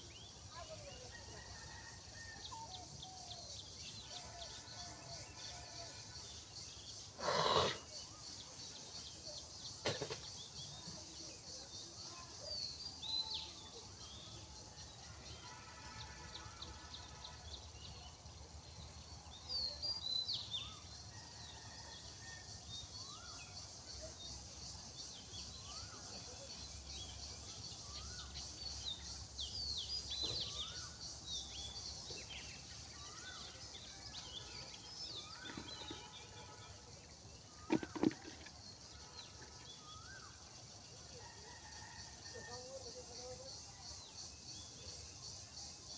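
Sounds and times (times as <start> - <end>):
faint outdoor background: 0.0 - 45.9.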